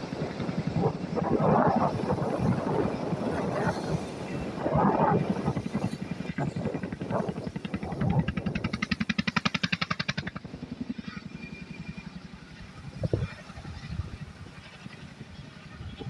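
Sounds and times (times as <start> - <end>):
helicopter rotor blades chopping: 0.0 - 16.0.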